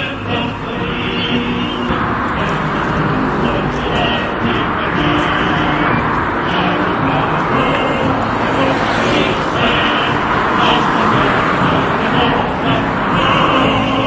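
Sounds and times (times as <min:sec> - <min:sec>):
street traffic roar: 0:00.0 - 0:14.0.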